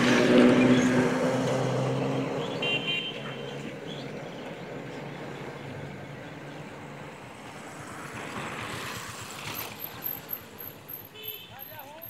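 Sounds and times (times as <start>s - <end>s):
vehicle passing: 0.0s - 11.1s
vehicle engine hum: 0.0s - 12.0s.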